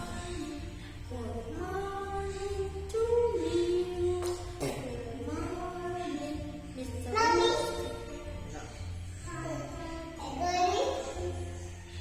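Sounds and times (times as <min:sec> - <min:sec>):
backing music track: 0:00.0 - 0:12.0.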